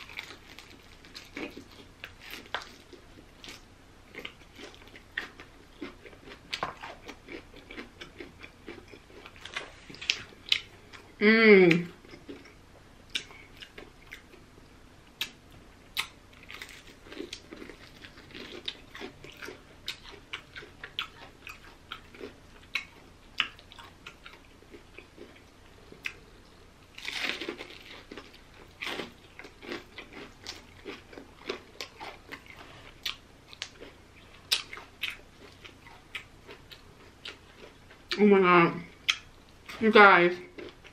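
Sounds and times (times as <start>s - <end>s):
crunching of breading: 0.0s - 10.8s, 15.2s - 26.2s, 26.9s - 38.0s
person chewing fried chicken: 0.0s - 11.1s, 15.2s - 26.4s, 27.0s - 38.2s, 40.5s - 40.9s.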